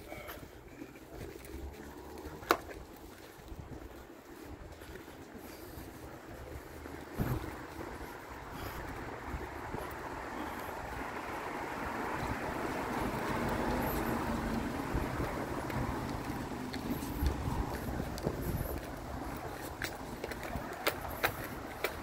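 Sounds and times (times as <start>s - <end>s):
vehicle passing: 0.3s - 3.1s, 5.1s - 22.0s.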